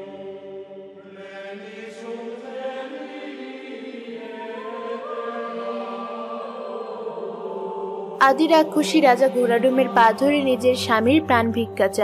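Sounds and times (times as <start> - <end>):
choir-like chanting voices: 0.0 - 12.0.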